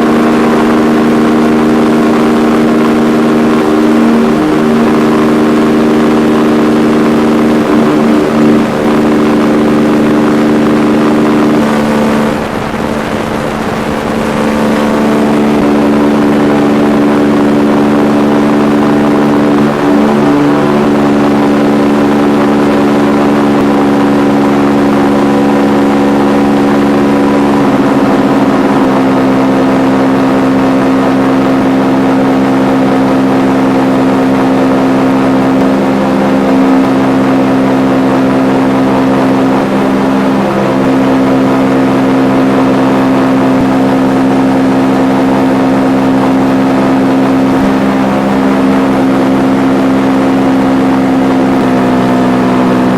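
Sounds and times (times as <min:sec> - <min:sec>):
paramotor engine drone: 0:00.0 - 0:52.9.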